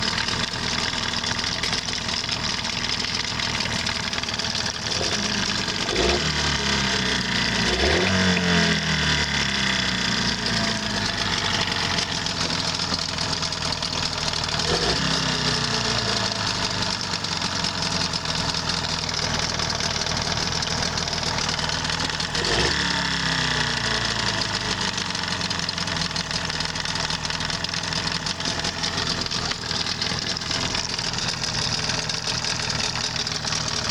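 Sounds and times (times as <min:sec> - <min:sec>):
outboard motor knocking and revving: 0:00.0 - 0:33.9.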